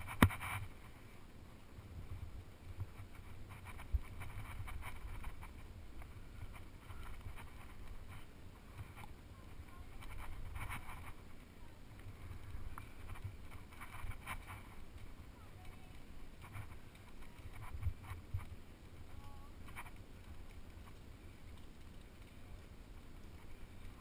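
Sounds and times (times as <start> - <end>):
wind rumble on microphone: 1.7 - 24.0.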